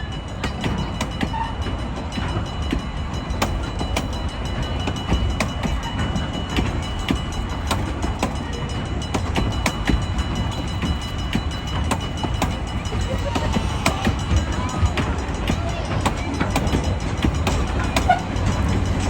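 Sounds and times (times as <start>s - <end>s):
train rumbling on track: 0.0s - 19.0s
wheels clicking over rail joints: 0.0s - 19.0s.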